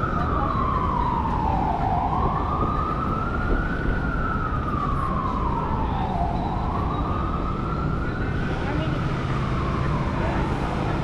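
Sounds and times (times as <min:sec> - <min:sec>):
siren wailing: 0:00.0 - 0:11.0
street traffic rumble: 0:00.0 - 0:11.0.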